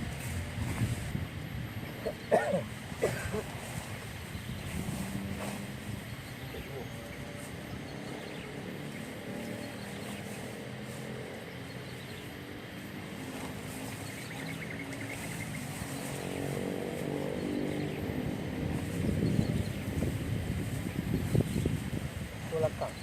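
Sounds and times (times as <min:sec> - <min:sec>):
motor running steadily: 0:00.0 - 0:23.0.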